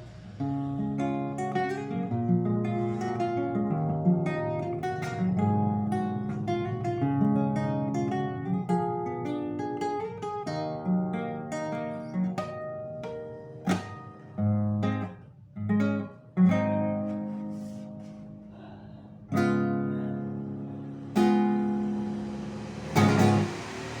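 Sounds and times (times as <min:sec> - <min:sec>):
classical guitar plucked notes: 0:00.0 - 0:24.0
guitar chords strummed: 0:00.0 - 0:24.0.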